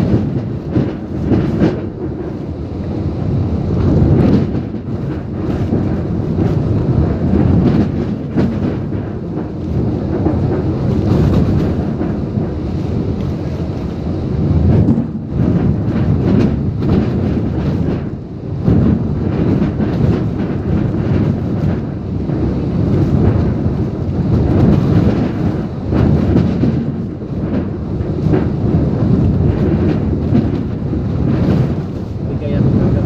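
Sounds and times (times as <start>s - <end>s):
gusting wind: 0.0s - 33.0s
rain: 0.0s - 33.0s
wind rumble on microphone: 0.0s - 33.0s.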